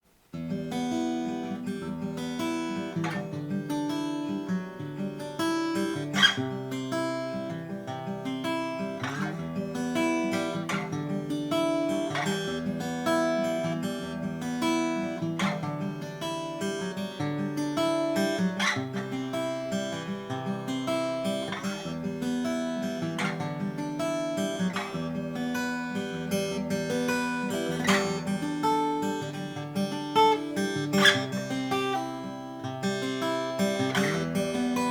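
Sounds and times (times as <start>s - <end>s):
acoustic guitar playing: 0.3s - 34.9s.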